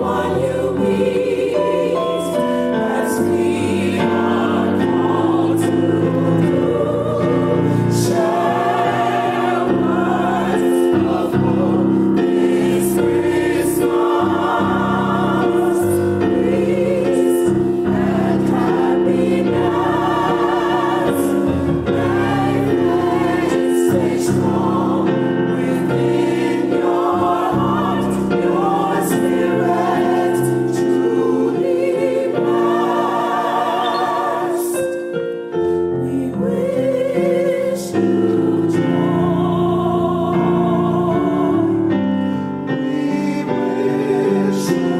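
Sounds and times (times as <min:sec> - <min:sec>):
gospel choir singing: 0:00.0 - 0:44.9.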